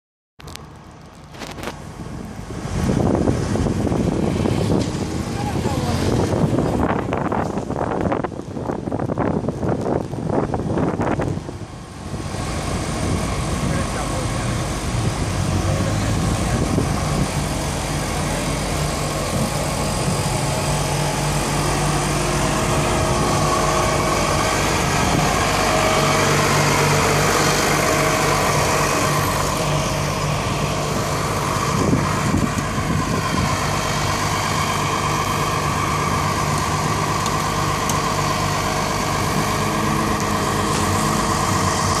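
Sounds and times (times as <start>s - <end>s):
fire truck engine idling: 0.6s - 42.0s.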